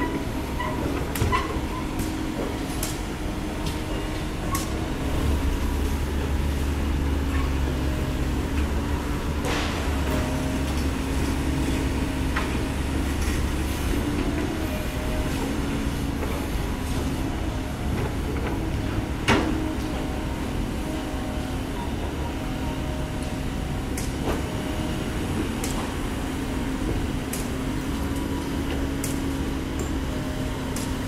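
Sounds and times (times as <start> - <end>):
excavator diesel engine rumbling: 0.0 - 31.0.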